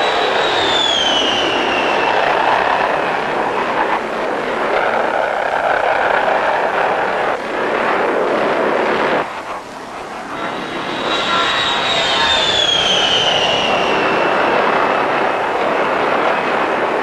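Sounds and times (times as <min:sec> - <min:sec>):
aircraft engine roar: 0:00.0 - 0:17.0.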